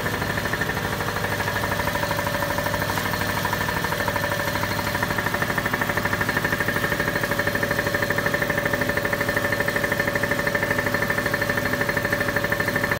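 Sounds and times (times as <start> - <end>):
machine motors pulsing hum: 0.0 - 12.9.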